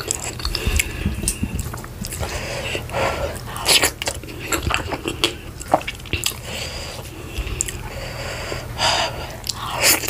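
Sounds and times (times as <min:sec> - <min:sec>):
wet chewing: 0:00.0 - 0:08.2.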